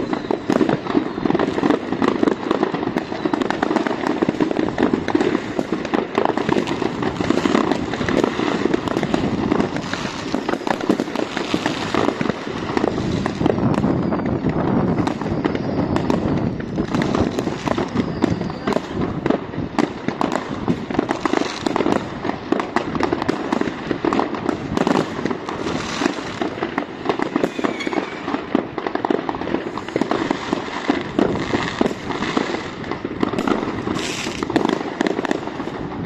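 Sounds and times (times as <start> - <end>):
firecrackers banging and crackling: 0.0 - 36.0.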